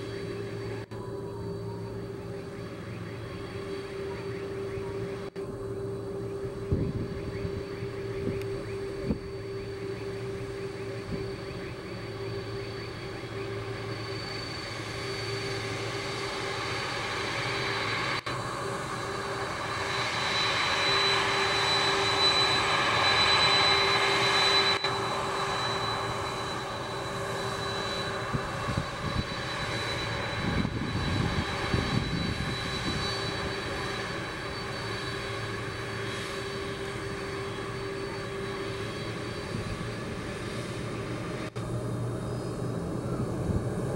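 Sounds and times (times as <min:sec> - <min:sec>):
jet engines humming and whining: 0:00.0 - 0:43.9.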